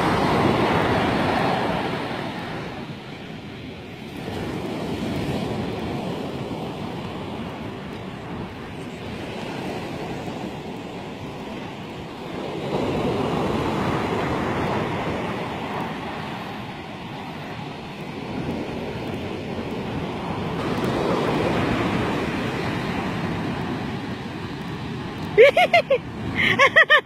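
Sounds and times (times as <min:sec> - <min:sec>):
waves breaking on a beach: 0:00.0 - 0:27.0.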